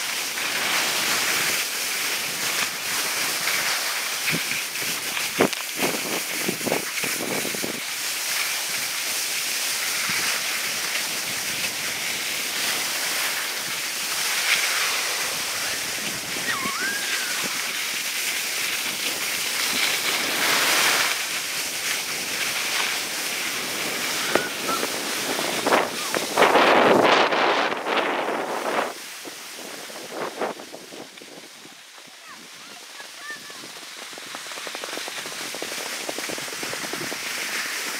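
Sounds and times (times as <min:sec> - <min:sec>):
skis sliding over snow: 0:00.0 - 0:37.9
wind on microphone: 0:02.2 - 0:07.8, 0:09.8 - 0:37.9.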